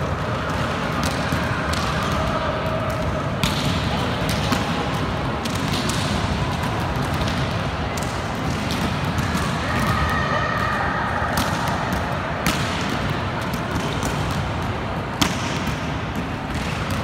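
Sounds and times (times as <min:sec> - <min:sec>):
sports hall din: 0:00.0 - 0:17.0
volleyballs slapping and thudding: 0:00.0 - 0:17.0.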